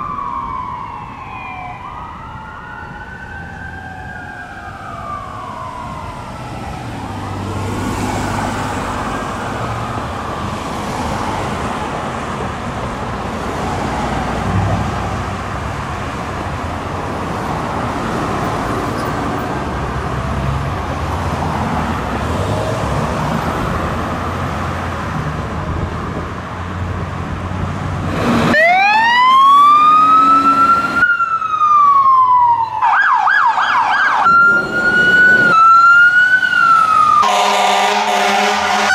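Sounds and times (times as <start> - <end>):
emergency sirens wailing: 0.0 - 38.9
traffic and engine rumble: 0.0 - 38.9.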